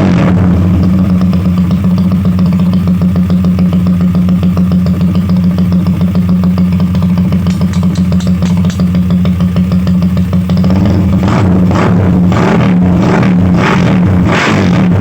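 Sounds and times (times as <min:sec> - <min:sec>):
motorcycle engine idling: 0:00.3 - 0:14.2.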